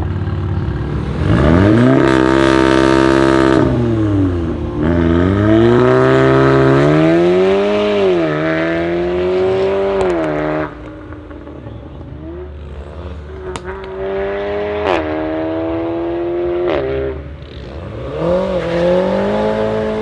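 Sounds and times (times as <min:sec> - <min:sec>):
car engine revving: 0:00.0 - 0:20.0
car accelerating hard: 0:00.6 - 0:11.6, 0:12.2 - 0:20.0.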